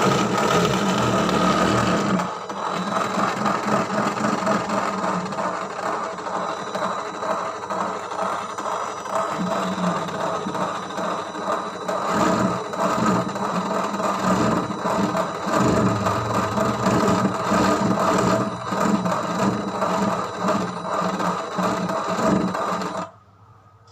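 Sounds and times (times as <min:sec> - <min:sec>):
small motor whirring with gear rattle: 0:00.0 - 0:23.1.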